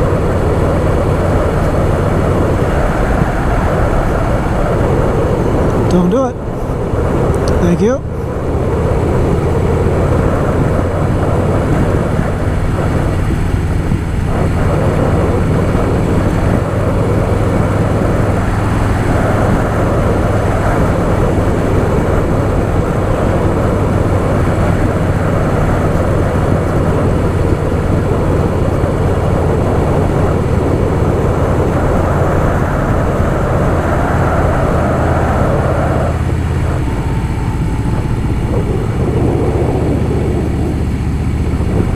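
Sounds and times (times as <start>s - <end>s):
motorcycle engine cruising: 0.0s - 41.9s
wind rush over microphone: 0.0s - 41.9s.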